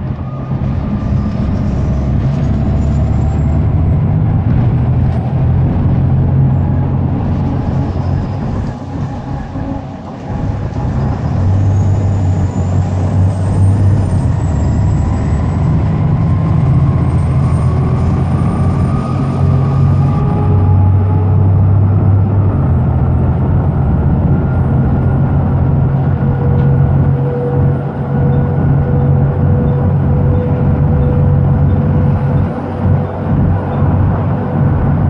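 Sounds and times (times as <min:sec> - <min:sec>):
bus diesel engine accelerating: 0:00.0 - 0:35.0.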